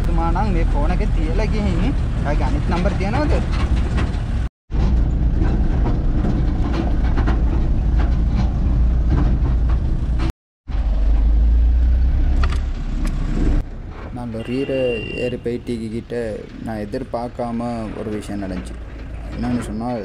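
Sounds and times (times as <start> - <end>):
lorry engine and road rumble: 0.0 - 20.0.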